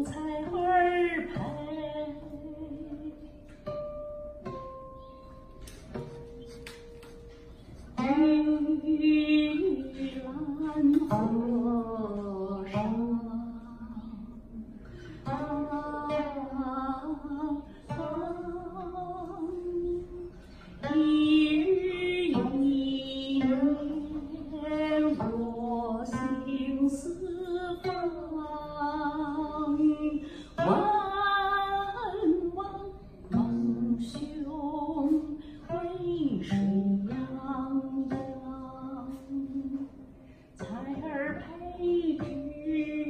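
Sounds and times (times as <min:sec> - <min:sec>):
woman singing gliding notes: 0:00.0 - 0:05.1, 0:07.8 - 0:43.0
plucked zither strings: 0:00.0 - 0:43.0.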